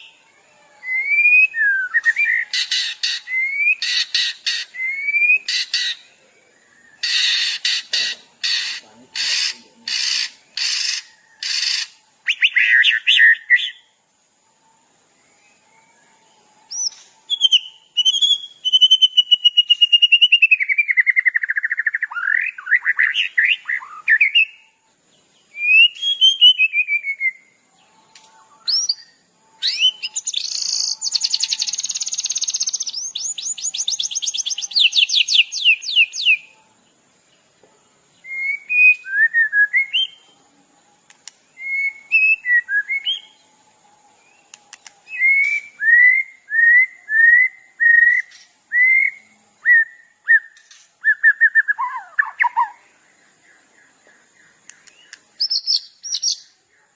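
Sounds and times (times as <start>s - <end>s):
songbird chirps and whistles: 0.0s - 56.9s.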